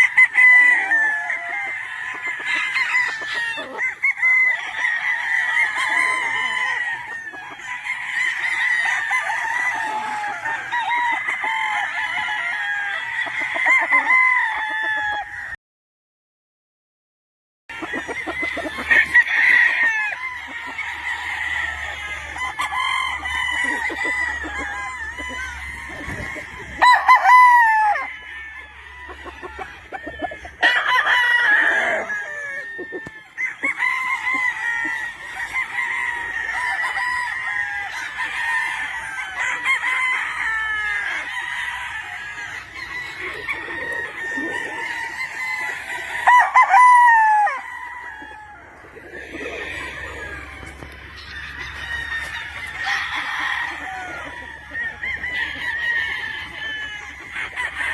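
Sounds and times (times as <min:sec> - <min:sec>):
chickens clucking: 0:00.0 - 0:15.6, 0:17.7 - 0:57.9
roosters crowing: 0:00.0 - 0:15.6, 0:17.7 - 0:57.9.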